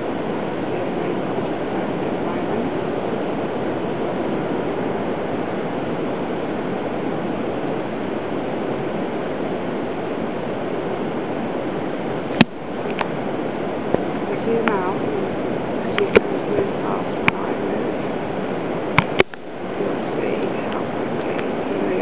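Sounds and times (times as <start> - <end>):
surf breaking on beach: 0.0 - 22.0.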